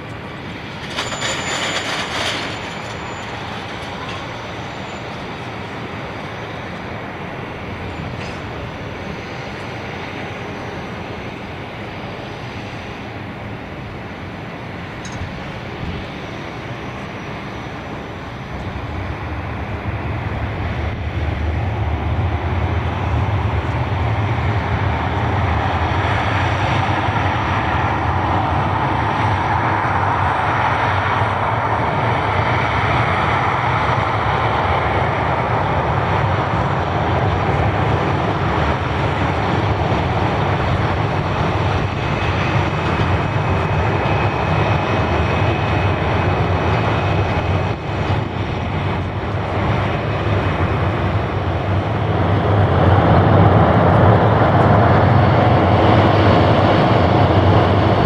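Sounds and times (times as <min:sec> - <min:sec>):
jet airliner engine roar: 0:00.0 - 0:58.0.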